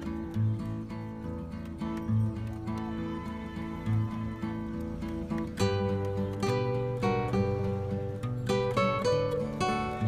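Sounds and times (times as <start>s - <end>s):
plucked acoustic guitar: 0.0s - 10.0s.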